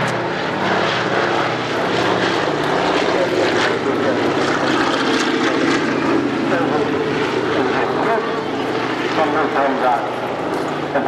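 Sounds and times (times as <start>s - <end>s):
propeller plane droning past: 0.0s - 11.0s.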